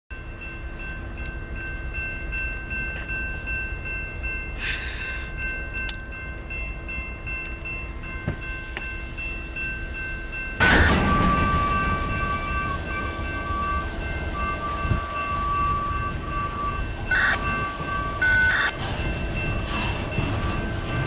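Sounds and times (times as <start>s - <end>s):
train wheels rumbling on rails: 0.1s - 21.0s.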